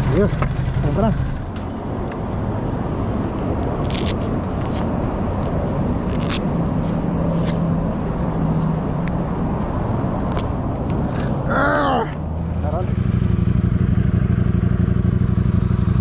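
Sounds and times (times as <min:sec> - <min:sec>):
motorcycle engine cruising: 0:00.0 - 0:05.5, 0:06.1 - 0:16.0.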